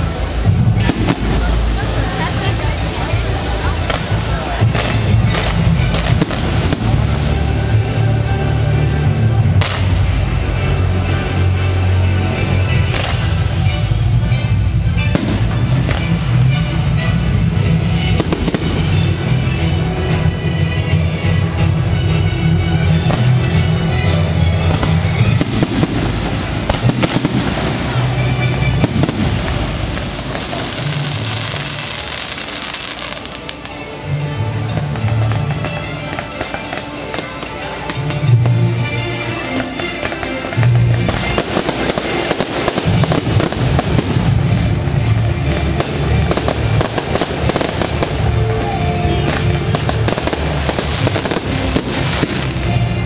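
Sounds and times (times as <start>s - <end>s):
loud music with strong bass: 0.0s - 33.2s, 40.6s - 53.0s
fireworks banging and crackling: 0.0s - 53.0s.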